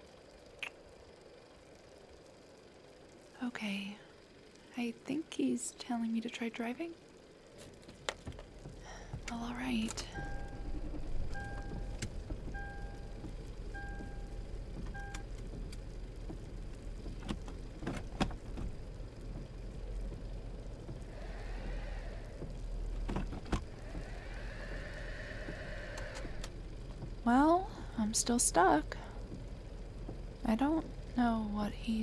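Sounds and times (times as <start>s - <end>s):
low engine rumble: 0.0s - 32.0s
spinning wheels whine: 0.0s - 32.0s.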